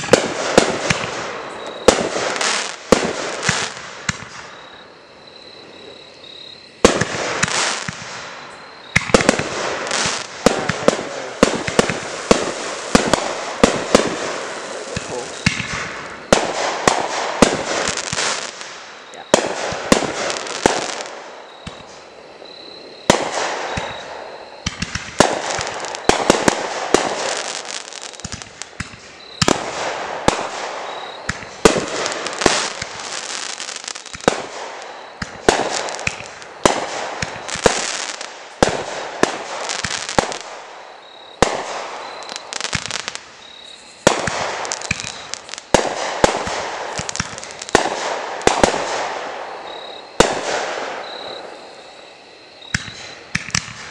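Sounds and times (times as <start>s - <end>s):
fireworks bangs: 0.0s - 5.0s, 6.6s - 53.9s.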